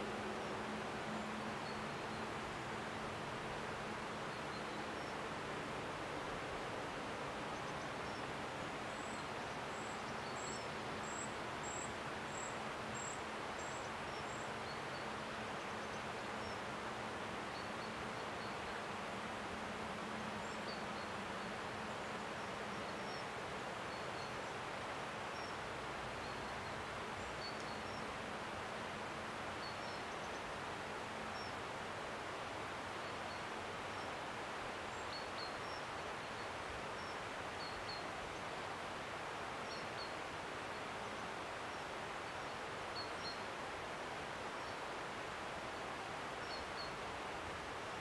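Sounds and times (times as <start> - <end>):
woodland rustling hiss: 0.0 - 48.0.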